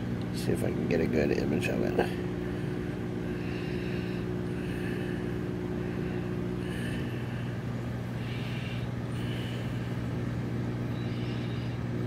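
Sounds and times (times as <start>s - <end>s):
aquarium pump humming: 0.0s - 12.0s.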